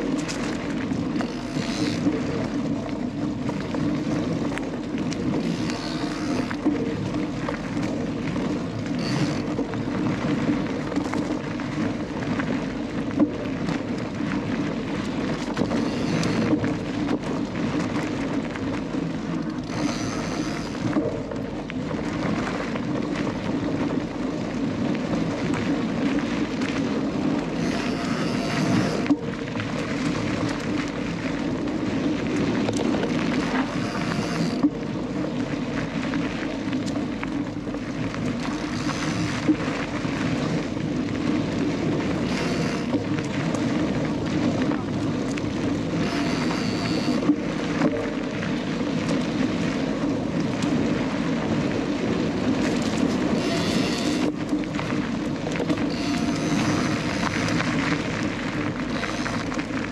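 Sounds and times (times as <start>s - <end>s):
bike tyres rumbling on trail: 0.0s - 59.9s.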